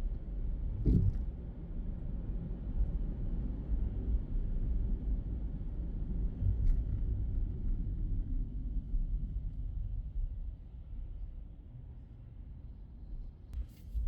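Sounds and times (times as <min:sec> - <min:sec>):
road and engine rumble in car: 0:00.0 - 0:14.0.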